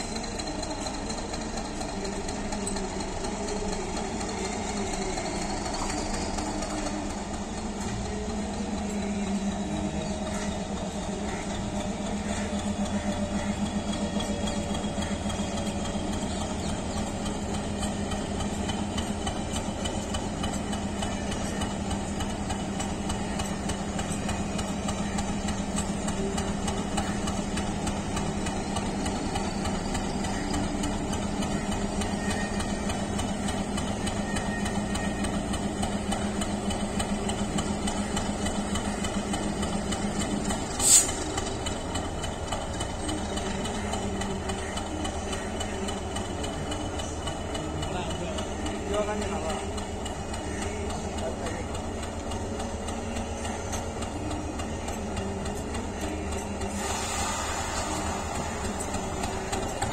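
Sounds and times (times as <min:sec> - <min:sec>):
diesel locomotive engine humming: 0:00.0 - 0:59.9.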